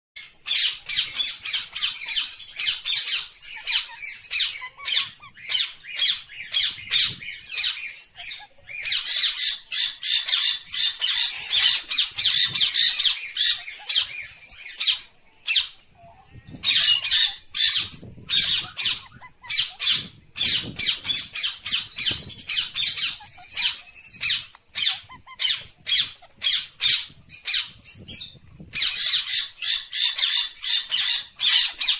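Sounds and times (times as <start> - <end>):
parrot squawking: 0.2 - 27.8, 28.7 - 31.9.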